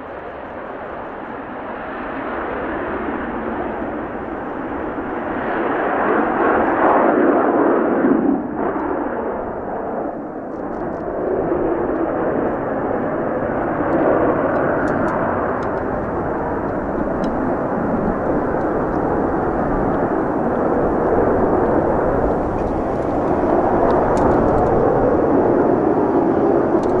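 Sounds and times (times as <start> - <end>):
loud jet engine roar: 0.0 - 27.0.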